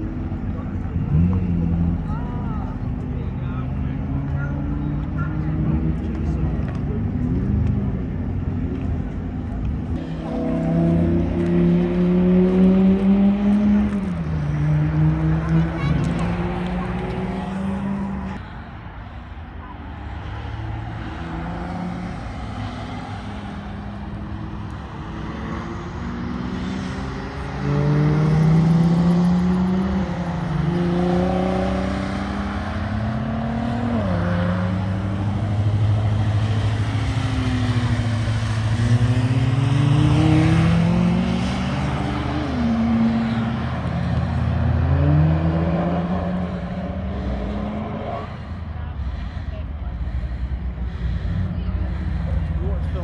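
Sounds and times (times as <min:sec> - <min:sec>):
car engine accelerating hard: 0:00.0 - 0:18.4, 0:20.1 - 0:53.0.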